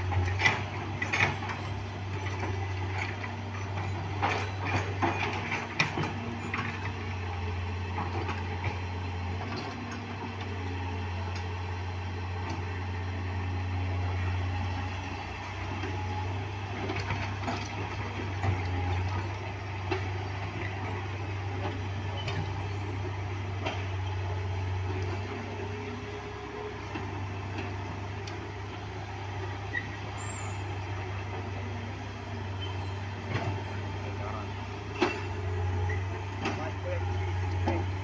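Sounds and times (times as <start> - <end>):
heavy vehicle engine humming: 0.0 - 38.0.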